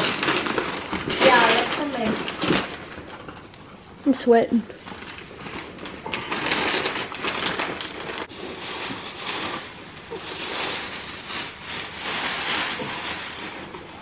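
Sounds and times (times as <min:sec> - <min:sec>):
paper rustling and crinkling: 0:00.0 - 0:03.5, 0:04.8 - 0:14.0.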